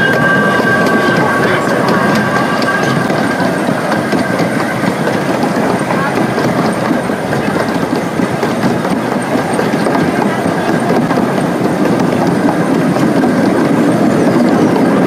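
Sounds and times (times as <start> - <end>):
train rolling along track: 0.0 - 15.0.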